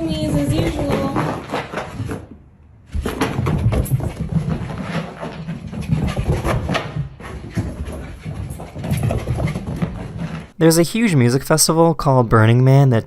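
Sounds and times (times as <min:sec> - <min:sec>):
pet scrambling knocks: 0:00.0 - 0:10.5.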